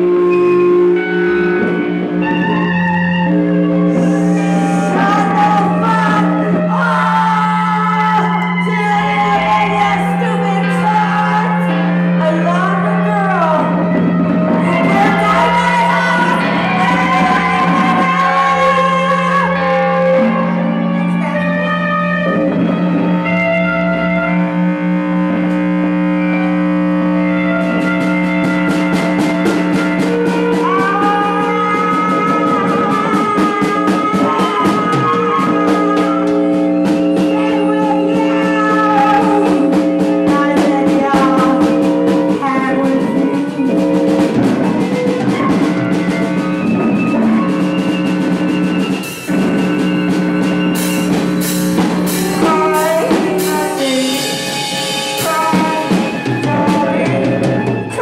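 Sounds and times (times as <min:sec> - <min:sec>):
electric bass droning: 0:00.0 - 0:58.0
electric guitar droning: 0:00.0 - 0:58.0.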